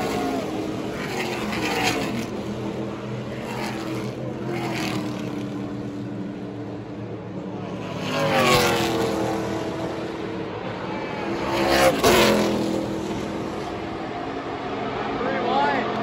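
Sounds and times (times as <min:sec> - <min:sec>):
race car engines passing by: 0:00.0 - 0:16.0.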